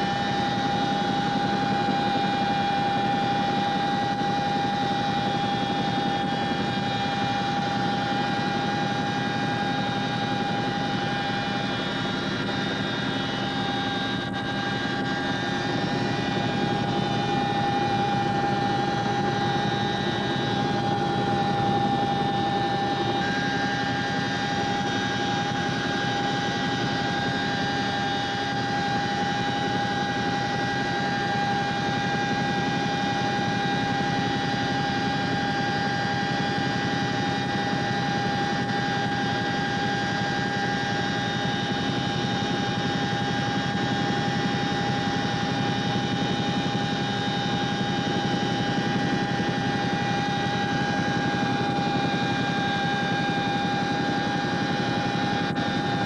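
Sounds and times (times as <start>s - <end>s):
helicopter engines and rotors rumbling: 0.0s - 56.0s
high-pitched whine: 0.0s - 56.0s.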